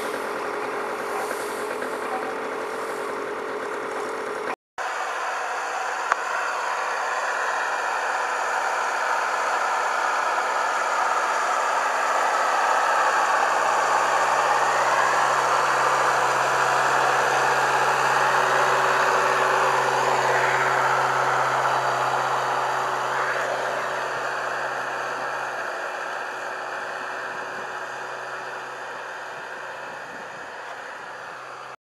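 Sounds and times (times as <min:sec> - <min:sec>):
tractor diesel engine working: 0:00.0 - 0:31.8.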